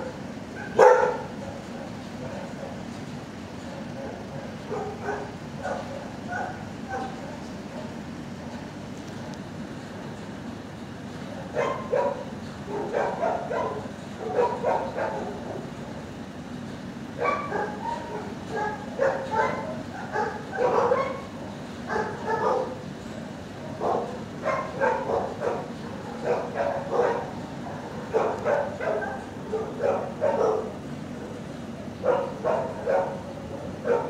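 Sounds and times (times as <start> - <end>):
dogs barking: 0.0 - 2.9, 3.6 - 9.5, 11.3 - 15.8, 17.2 - 22.9, 23.6 - 34.0
low background hum: 0.0 - 34.0.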